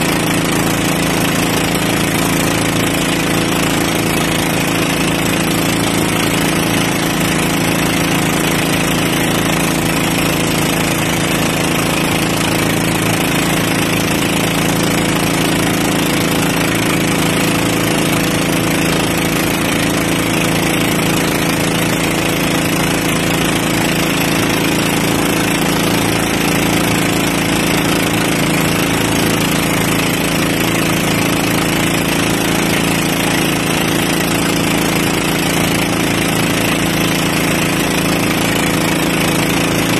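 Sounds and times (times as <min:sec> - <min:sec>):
boat engine running: 0:00.0 - 0:39.9
water rushing along hull: 0:00.0 - 0:39.9.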